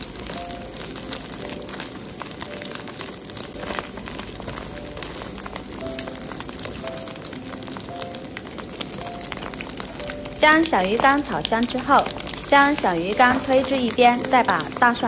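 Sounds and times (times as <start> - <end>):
fish sizzling in hot oil: 0.0 - 15.0
soft background music: 0.0 - 15.0.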